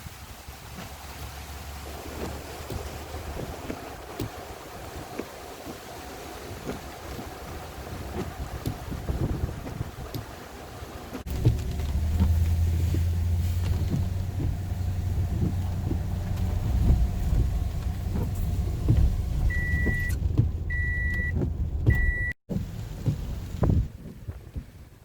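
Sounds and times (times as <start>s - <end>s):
vehicle engine humming: 0.2s - 25.0s.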